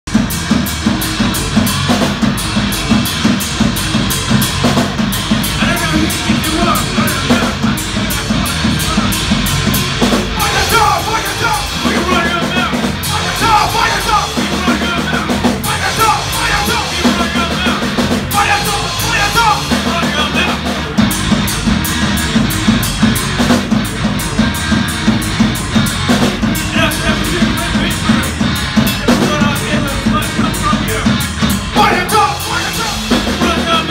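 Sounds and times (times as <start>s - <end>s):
drum kit beat: 0.0s - 33.9s
electric bass: 0.0s - 33.9s.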